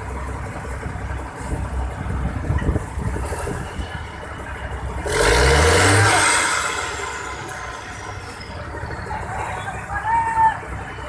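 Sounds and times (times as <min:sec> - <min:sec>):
diesel engine revving: 0:00.0 - 0:10.0.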